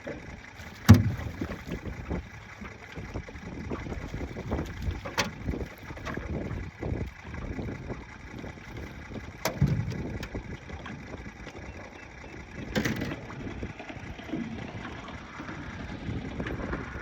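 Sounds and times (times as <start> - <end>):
wind buffeting microphone: 0.9 - 17.0.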